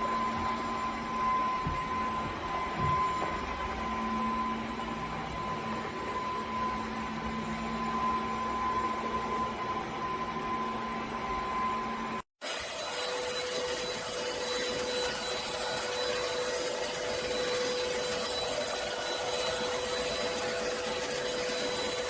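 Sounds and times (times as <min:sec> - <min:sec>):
vacuum motor running: 0:00.0 - 0:22.0.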